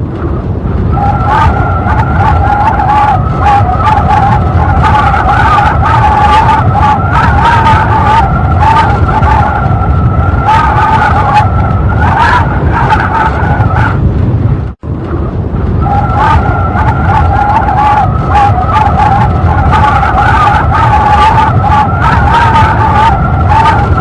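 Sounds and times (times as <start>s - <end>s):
strong wind rushing: 0.0s - 24.0s
wind whistling howl: 0.0s - 24.0s.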